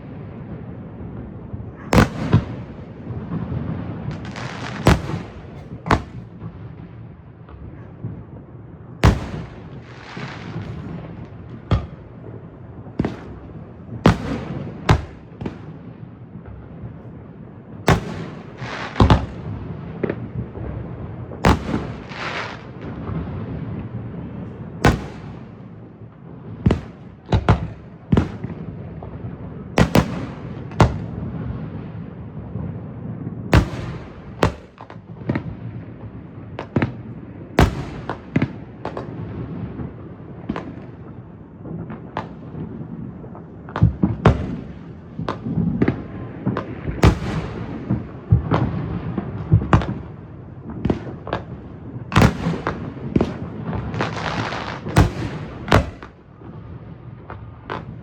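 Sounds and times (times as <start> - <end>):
fireworks booming: 0.0 - 58.0
fireworks crackle and rumble: 0.0 - 58.0.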